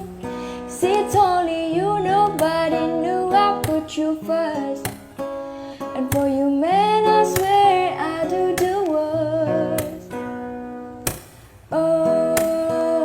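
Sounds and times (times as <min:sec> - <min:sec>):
woman singing wordless melody: 0:00.0 - 0:10.5, 0:11.7 - 0:13.0
strummed acoustic guitar: 0:00.0 - 0:13.0.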